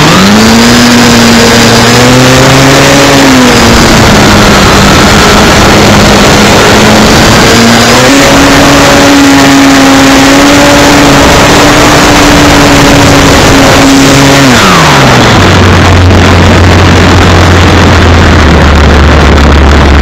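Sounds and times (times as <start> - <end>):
loud wind rush: 0.0 - 20.0
model airplane motor and propeller: 0.0 - 20.0.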